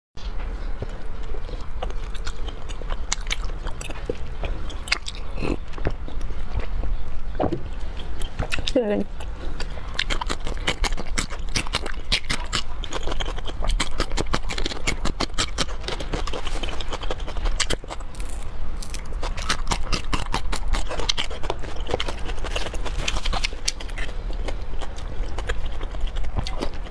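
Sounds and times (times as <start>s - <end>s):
chewing crisp raw vegetables: 0.2s - 26.9s.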